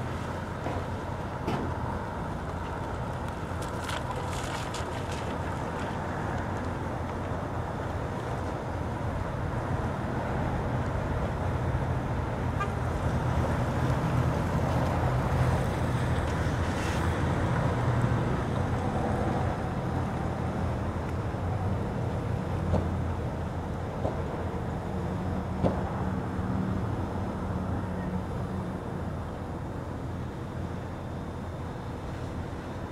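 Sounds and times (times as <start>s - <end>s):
outdoor rumble and hiss: 0.0s - 32.9s.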